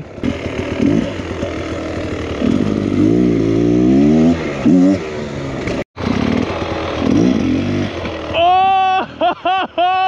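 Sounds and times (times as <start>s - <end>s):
dirt bike engine revving: 0.0s - 9.3s.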